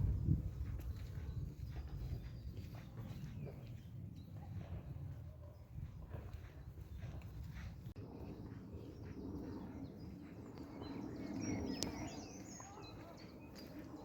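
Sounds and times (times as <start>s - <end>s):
steady low rumbling noise: 0.0s - 14.0s
small birds chirping: 0.4s - 4.6s, 5.4s - 14.0s.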